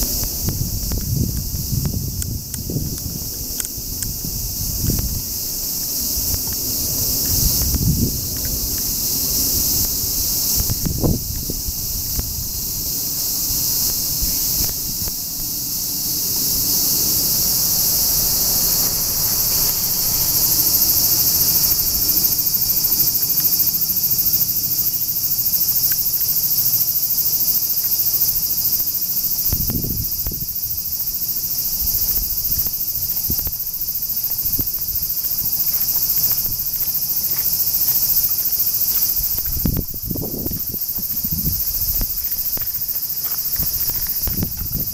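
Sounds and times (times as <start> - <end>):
cicadas shrilling: 0.0 - 44.9.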